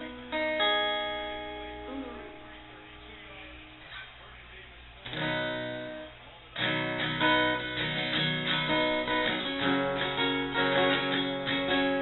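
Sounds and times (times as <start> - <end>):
acoustic guitar strumming: 0.0 - 3.9, 5.0 - 12.0.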